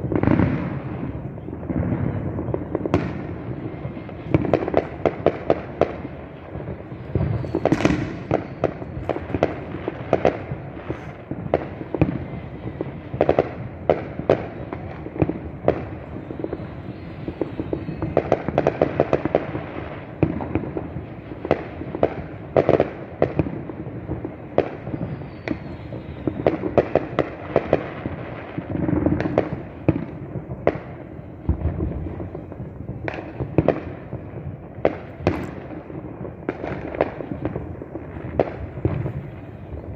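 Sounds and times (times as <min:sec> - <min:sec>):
distant fireworks bangs and crackles: 0:00.0 - 0:39.9.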